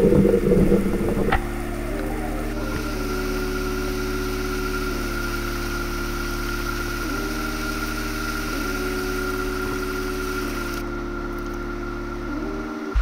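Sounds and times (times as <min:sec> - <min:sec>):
background music with low chords: 0:00.0 - 0:13.0.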